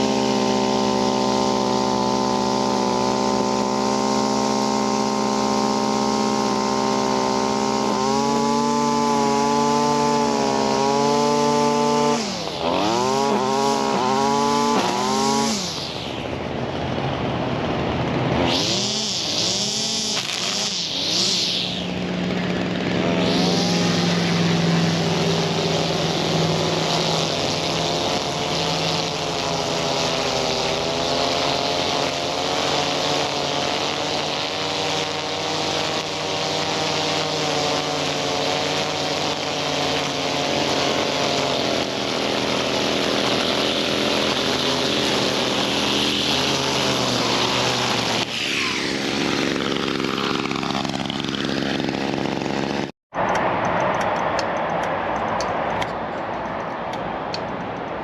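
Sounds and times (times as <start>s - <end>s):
string trimmer running at high revs: 0.0s - 53.4s.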